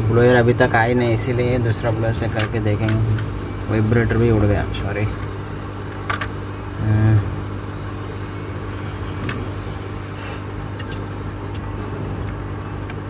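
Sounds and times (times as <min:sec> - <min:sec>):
hot-air blower humming: 0:00.0 - 0:13.0.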